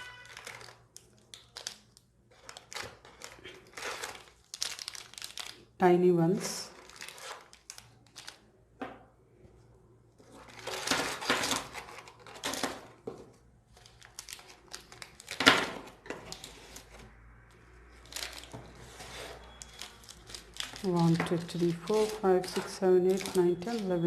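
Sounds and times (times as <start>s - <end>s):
plastic packets crinkling: 0.0s - 5.8s, 6.4s - 8.5s, 10.2s - 13.0s, 13.7s - 16.9s, 17.8s - 24.0s.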